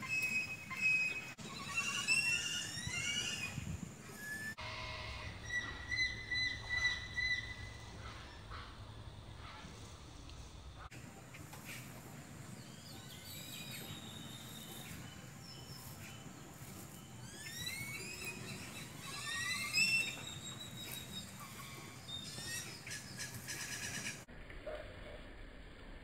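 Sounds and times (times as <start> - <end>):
birds chirping: 0.0 - 24.3.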